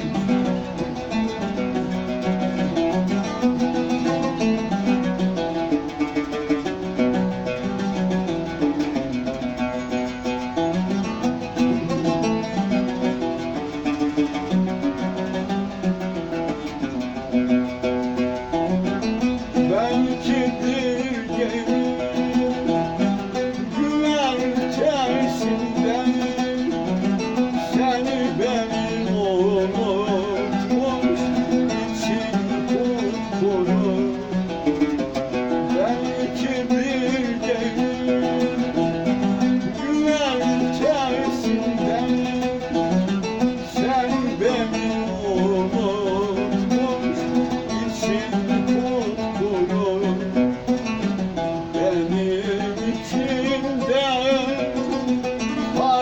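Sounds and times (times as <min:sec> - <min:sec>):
man singing: 0:00.0 - 0:56.0
oud melody: 0:00.0 - 0:56.0.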